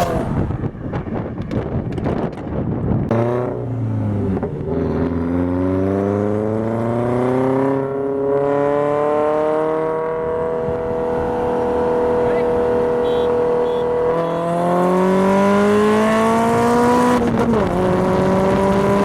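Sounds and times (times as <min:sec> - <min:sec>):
car engine revving: 0:03.1 - 0:19.0.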